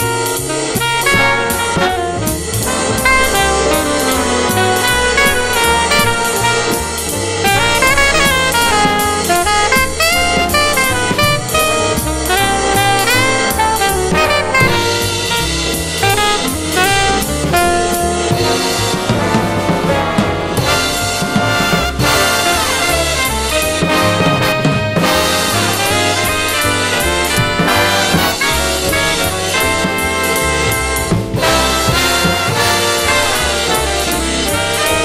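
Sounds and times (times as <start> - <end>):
bass line: 0.0 - 35.0
horn melody: 0.0 - 35.0
jazz drum kit: 0.0 - 35.0.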